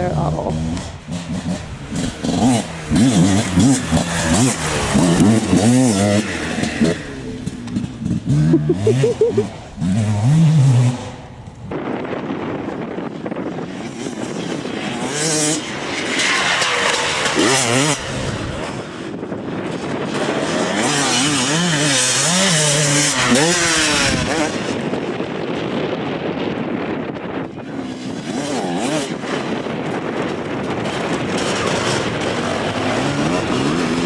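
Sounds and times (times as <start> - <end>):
dirt bike engines revving: 0.0 - 11.9, 12.5 - 25.8, 26.7 - 34.0.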